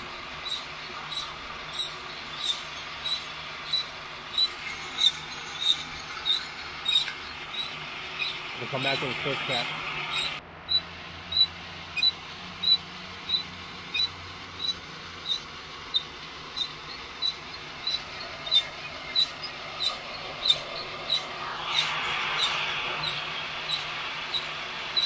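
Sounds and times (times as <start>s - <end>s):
rotating drum squeaking: 0.0s - 25.0s
steady rushing noise: 0.0s - 25.0s.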